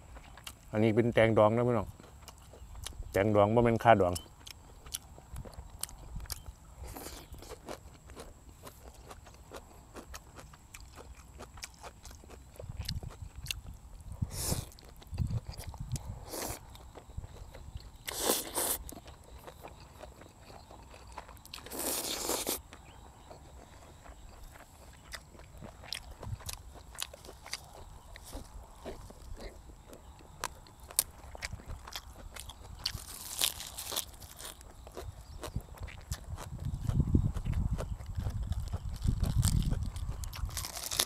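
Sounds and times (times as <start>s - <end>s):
person chewing and crunching: 0.0s - 0.7s, 1.6s - 3.2s, 4.0s - 41.0s.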